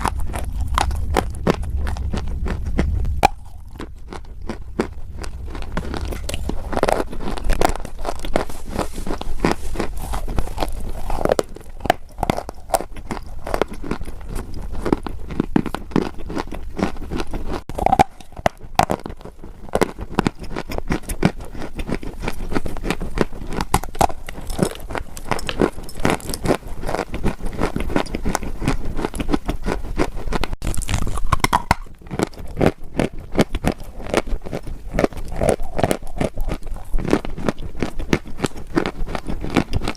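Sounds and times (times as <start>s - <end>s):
dry clay crunching: 0.0s - 39.9s.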